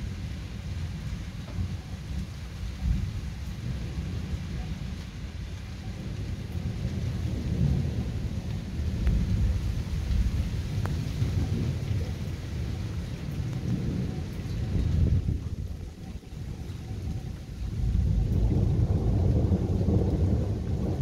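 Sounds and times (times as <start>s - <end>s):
thunder rumbling: 0.0s - 21.0s.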